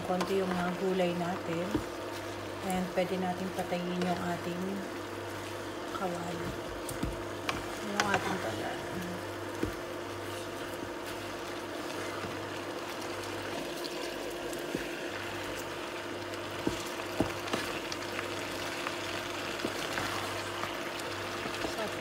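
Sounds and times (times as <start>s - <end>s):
meat and vegetables sizzling in a pan: 0.0s - 22.0s.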